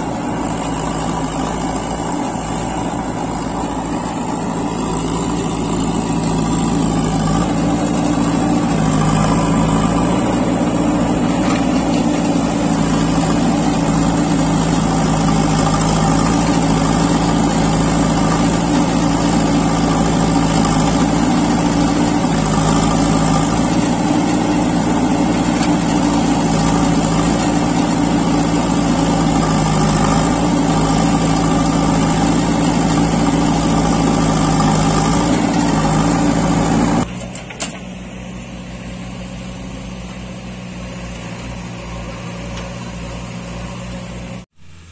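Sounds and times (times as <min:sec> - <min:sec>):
backhoe arm digging soil: 0:00.0 - 0:38.0
diesel engine running: 0:00.0 - 0:44.9.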